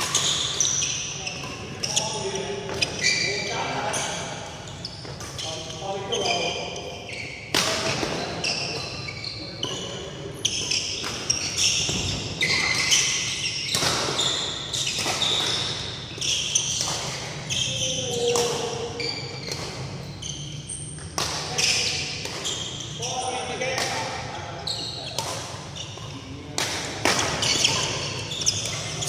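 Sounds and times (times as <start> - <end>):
shoes squeaking on court floor: 0.0 - 29.0.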